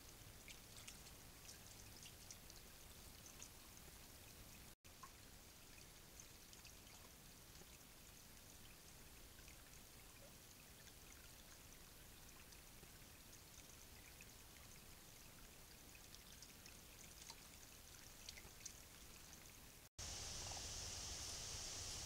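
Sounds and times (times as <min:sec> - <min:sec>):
creek water trickling: 0:00.0 - 0:20.6.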